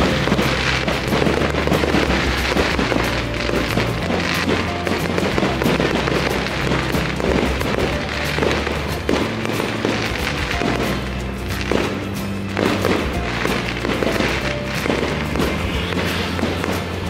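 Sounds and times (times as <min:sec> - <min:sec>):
fireworks bangs and crackles: 0:00.0 - 0:17.0
music: 0:00.0 - 0:17.0.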